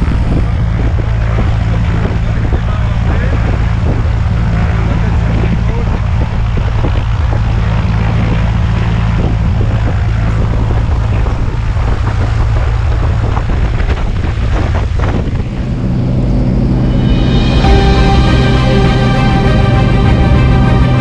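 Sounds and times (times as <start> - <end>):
propeller aircraft engine running: 0.0 - 21.0.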